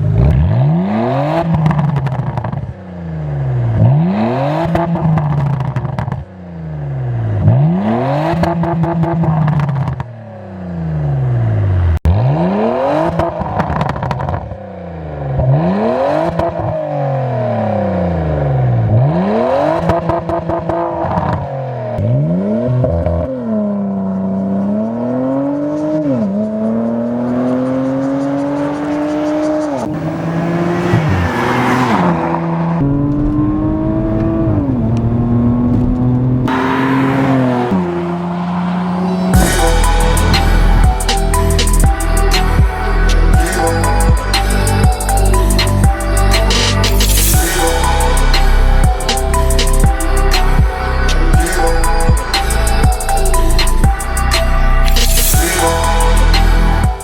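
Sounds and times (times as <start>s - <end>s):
car accelerating through gears: 0.0s - 57.0s
car engine revving: 0.0s - 57.0s.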